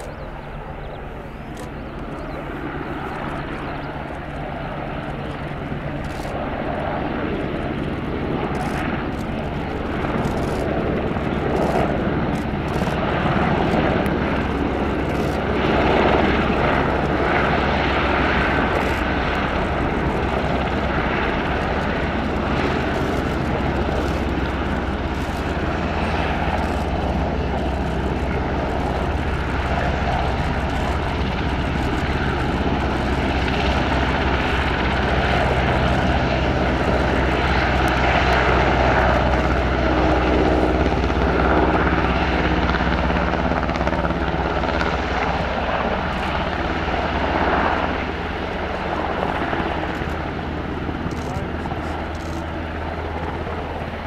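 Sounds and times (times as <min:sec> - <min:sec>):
helicopter flying: 0:00.0 - 0:54.0.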